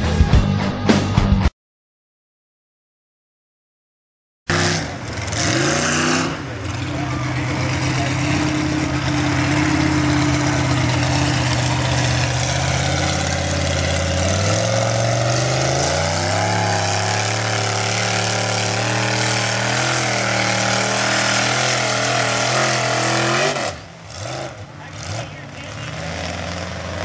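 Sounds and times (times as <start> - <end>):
tires churning through mud: 4.5 - 27.0
truck engine revving: 4.5 - 27.0.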